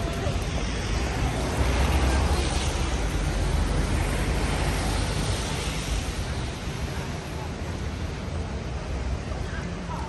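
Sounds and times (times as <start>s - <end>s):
street traffic noise: 0.0s - 10.0s
tyre hiss on wet road: 0.1s - 9.1s.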